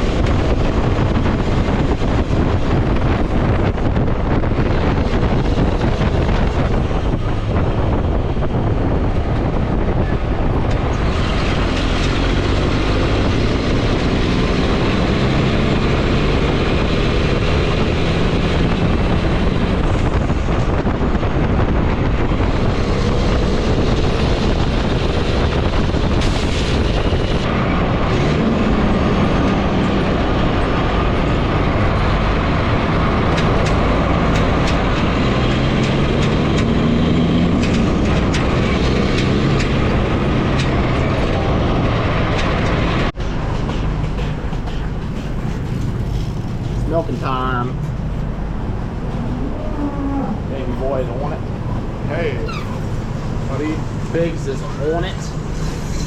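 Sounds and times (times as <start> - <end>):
heavy vehicle engine rumbling: 0.0 - 56.0.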